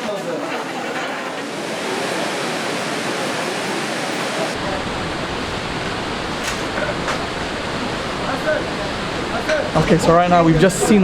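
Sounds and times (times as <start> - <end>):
waterfall rushing: 1.4 - 11.0.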